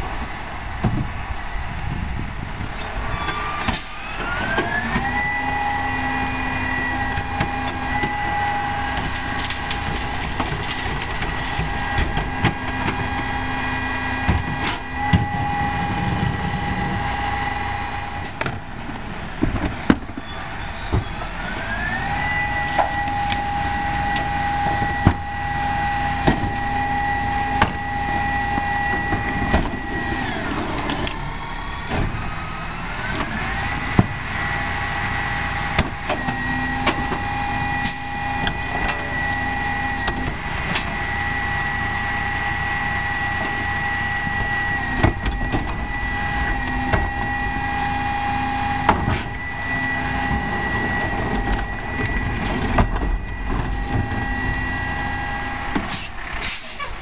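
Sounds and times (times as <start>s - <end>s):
high hydraulic whine: 0.0s - 57.0s
truck engine revving: 0.0s - 57.0s.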